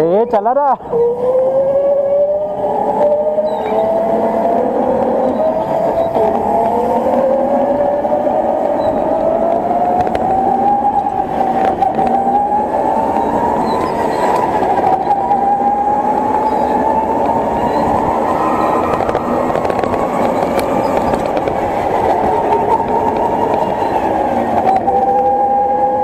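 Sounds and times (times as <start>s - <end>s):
go-kart engine accelerating: 0.8s - 26.0s.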